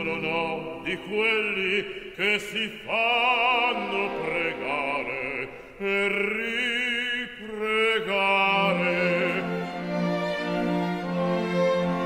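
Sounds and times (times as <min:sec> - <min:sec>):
operatic male voice singing: 0:00.0 - 0:09.9.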